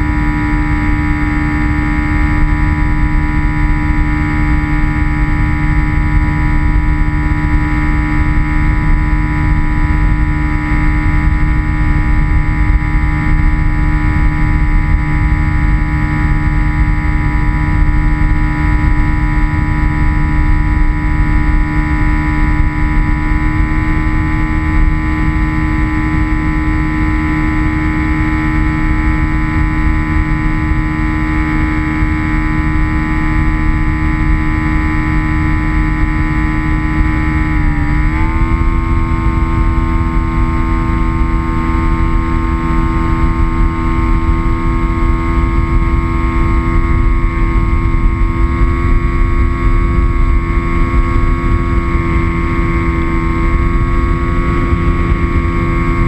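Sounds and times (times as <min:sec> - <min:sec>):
model airplane motor whine: 0:00.0 - 0:56.0.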